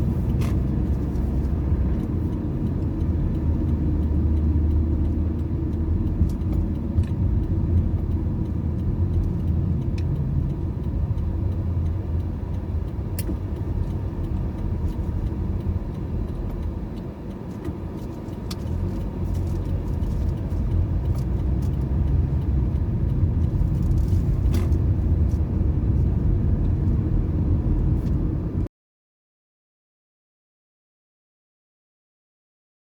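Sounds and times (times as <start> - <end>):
car road and engine rumble: 0.0 - 28.7.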